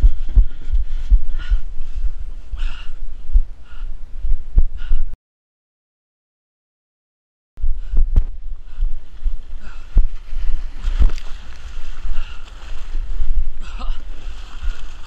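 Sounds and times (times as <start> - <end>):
wind rumble on microphone: 0.0 - 5.1, 7.6 - 15.0.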